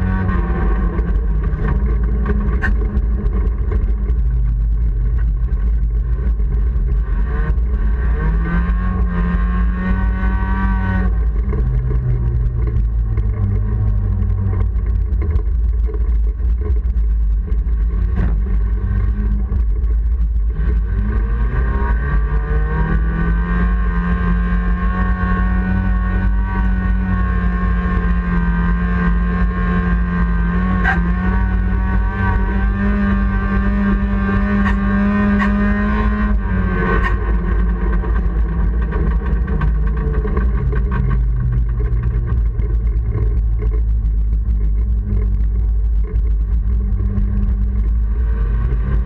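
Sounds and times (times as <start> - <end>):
car engine revving: 0.0 - 49.0
low rumble: 0.0 - 49.0.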